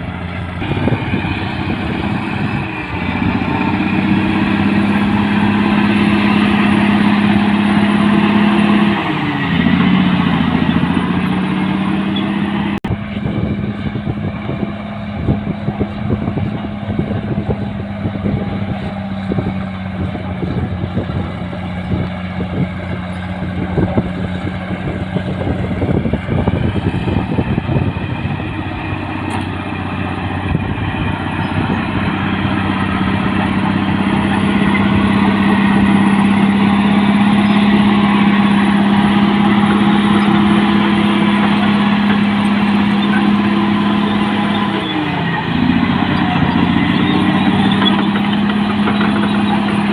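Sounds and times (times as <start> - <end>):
bulldozer diesel engine drone: 0.0 - 49.9
tracks clanking and rattling: 0.0 - 49.9.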